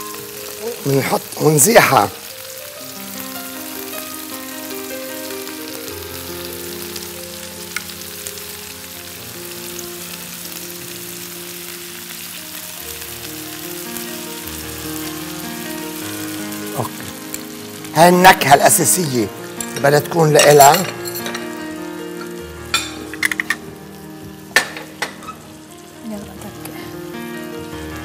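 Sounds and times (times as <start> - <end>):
background music: 0.0 - 28.0
chicken and onions sizzling in a pan: 0.0 - 28.0.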